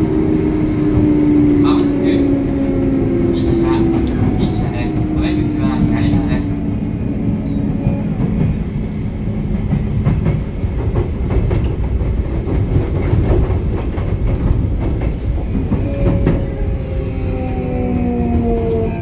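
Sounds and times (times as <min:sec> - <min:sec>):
rail joint clicks: 0:00.0 - 0:19.0
train wheels rumbling on rail: 0:00.0 - 0:19.0.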